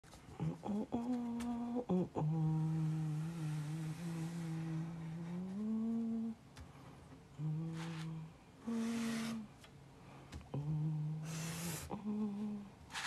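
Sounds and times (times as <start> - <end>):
woman humming: 0.3 - 6.4, 7.3 - 9.7, 10.4 - 12.8.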